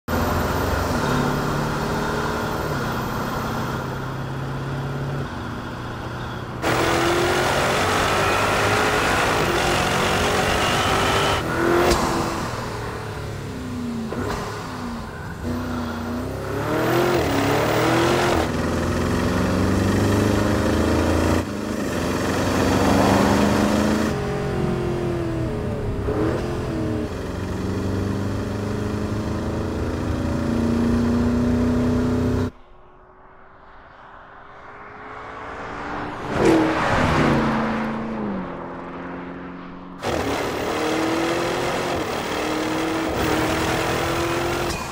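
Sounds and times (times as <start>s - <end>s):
car engine accelerating: 0.1s - 32.6s, 34.6s - 44.9s.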